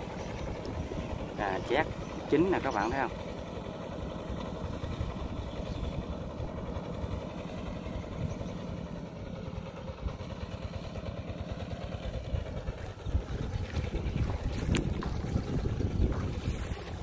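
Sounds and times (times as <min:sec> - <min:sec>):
harvester engine chugging: 0:00.0 - 0:17.0.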